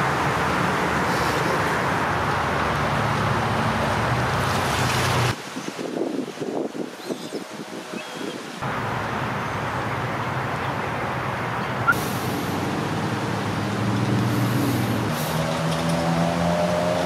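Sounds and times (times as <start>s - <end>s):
rain hiss: 0.0s - 16.7s.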